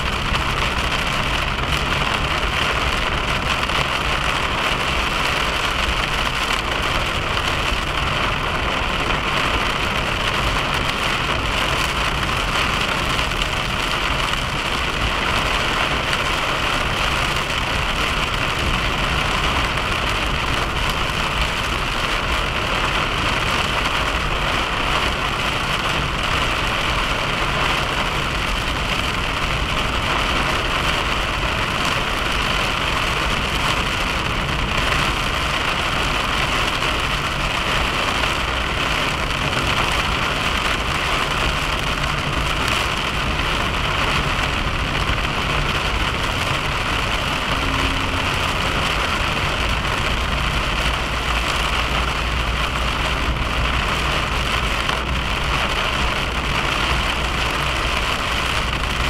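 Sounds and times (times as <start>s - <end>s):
low engine and road rumble: 0.0s - 59.0s.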